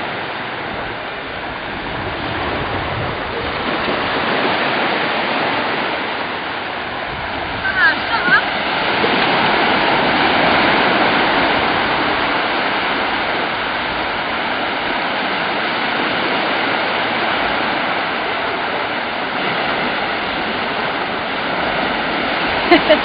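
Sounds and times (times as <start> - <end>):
surf washing onto beach: 0.0 - 23.0.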